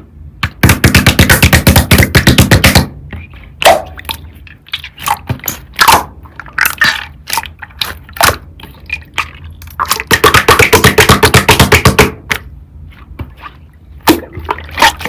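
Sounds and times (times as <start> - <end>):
slime squishing with sticky crackles: 2.6 - 15.0.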